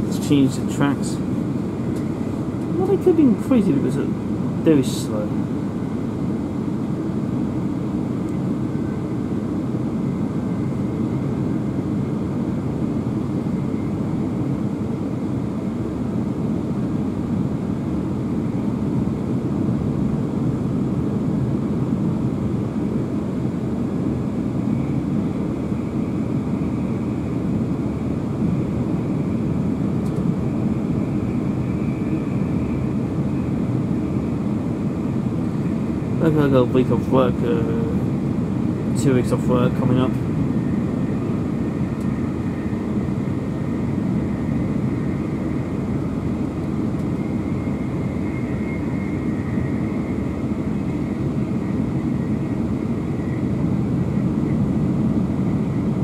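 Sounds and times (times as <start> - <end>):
faint high whine: 0.0 - 56.0.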